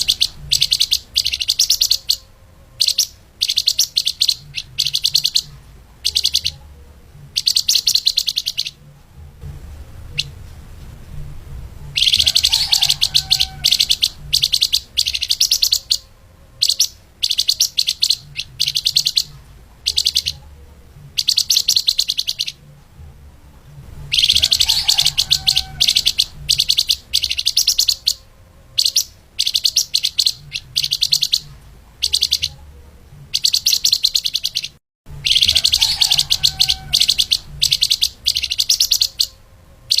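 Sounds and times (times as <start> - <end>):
songbird rapid high chirping: 0.0 - 8.9, 10.0 - 10.4, 11.9 - 22.7, 24.0 - 40.0
faint low hum: 0.0 - 40.0.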